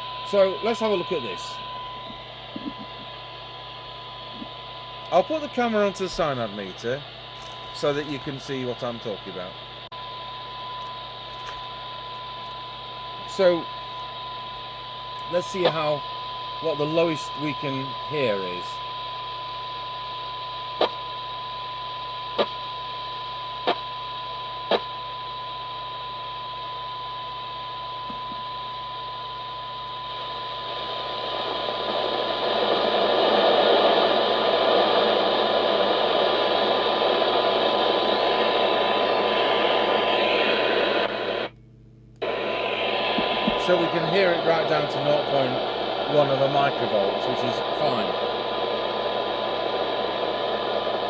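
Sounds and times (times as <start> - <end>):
receiver hiss: 0.0 - 51.0
steady test tone from radio speaker: 0.0 - 51.0.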